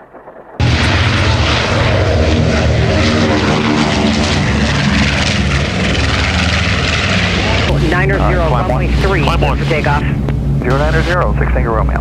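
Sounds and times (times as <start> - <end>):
propeller aircraft engines droning: 0.6 - 12.0.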